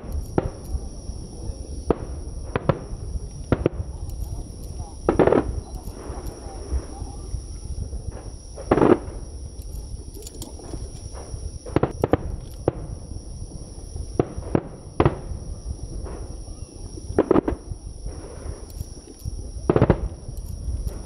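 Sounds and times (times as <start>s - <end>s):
fireworks bangs and cracks: 0.0s - 21.0s
low steady rumble: 0.0s - 21.0s.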